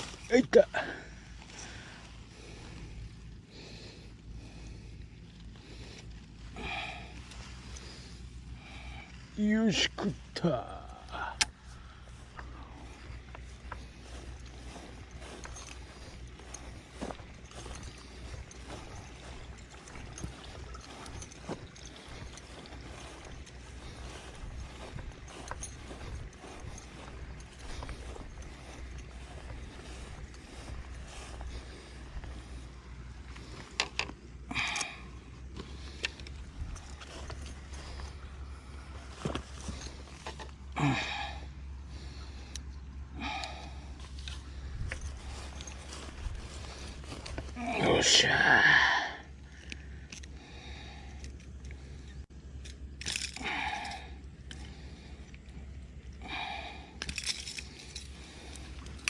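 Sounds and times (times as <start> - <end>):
person breathing: 0.0 - 9.4, 10.7 - 59.0
steady low hum: 0.0 - 59.0.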